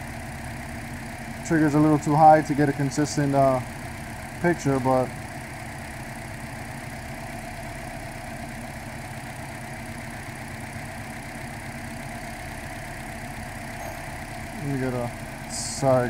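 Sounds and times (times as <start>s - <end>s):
car engine idling rough: 0.0s - 16.0s.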